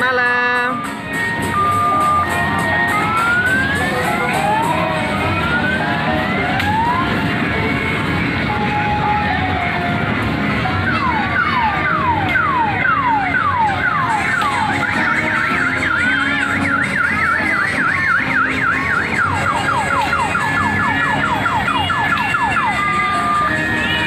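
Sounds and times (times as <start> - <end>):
electronic toy siren: 0.8 - 7.2, 10.8 - 24.0.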